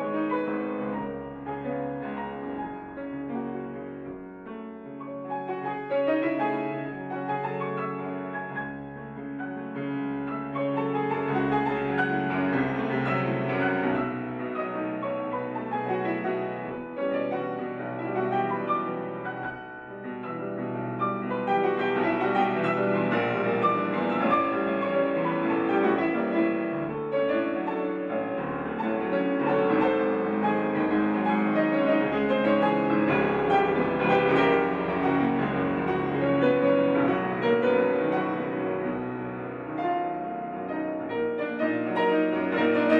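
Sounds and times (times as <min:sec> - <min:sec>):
solo grand piano playing: 0:00.0 - 0:42.9.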